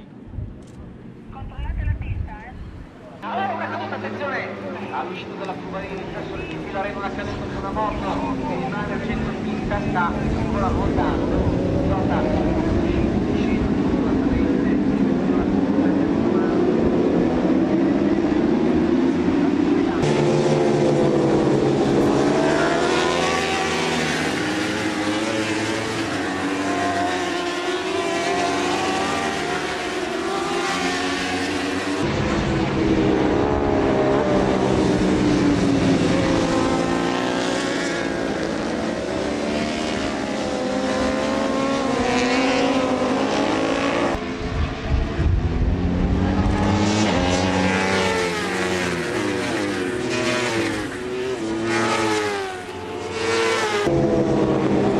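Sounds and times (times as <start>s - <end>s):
racing motorcycle engines revving: 0.0s - 54.9s.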